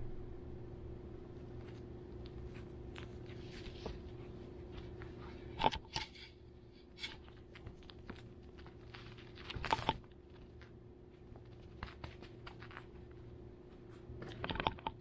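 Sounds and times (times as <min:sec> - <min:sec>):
faint steady hum: 0:00.0 - 0:15.0
small paws scratching and rustling: 0:01.3 - 0:15.0.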